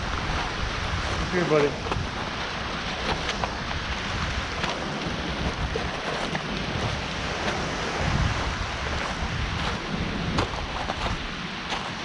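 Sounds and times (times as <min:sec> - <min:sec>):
sea surf on rocky shore: 0:00.0 - 0:12.0
wind rumbling on microphone: 0:00.0 - 0:12.0.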